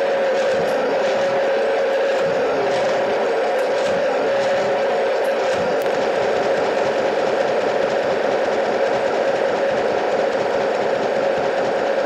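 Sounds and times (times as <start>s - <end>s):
metal shaper running: 0.0s - 12.0s.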